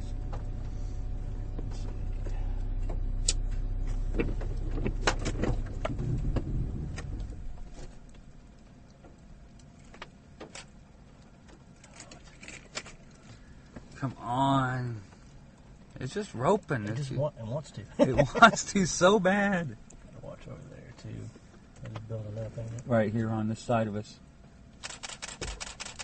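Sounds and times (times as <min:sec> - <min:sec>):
car rumbling: 0:00.0 - 0:26.0
faint background noise: 0:00.0 - 0:26.0.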